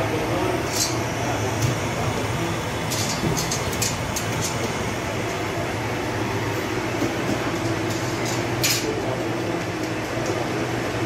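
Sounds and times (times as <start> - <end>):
machine roar with low hum: 0.0 - 11.0.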